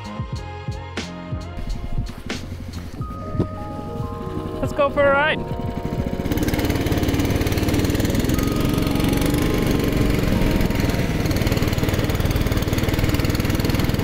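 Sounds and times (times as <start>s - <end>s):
small engine running: 1.6s - 14.0s.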